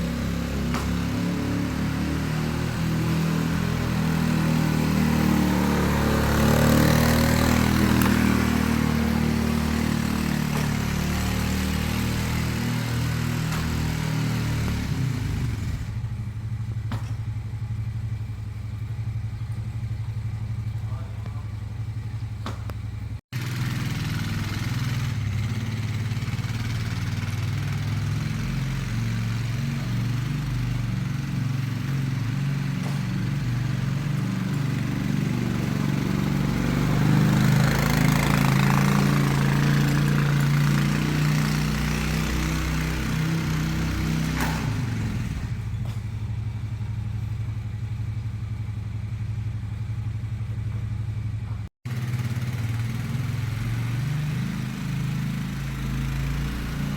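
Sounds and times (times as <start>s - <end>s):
engine running: 0.0s - 56.9s.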